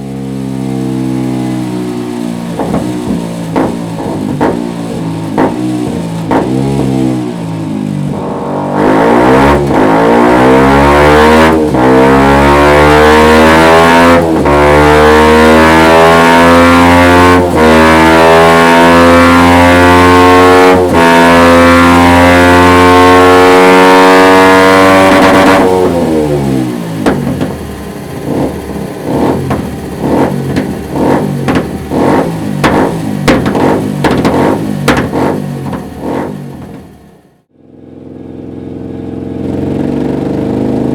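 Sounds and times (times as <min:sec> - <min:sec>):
motorcycle engine revving: 0:00.0 - 0:40.9
exhaust popping and crackling: 0:01.1 - 0:22.9, 0:24.4 - 0:37.3.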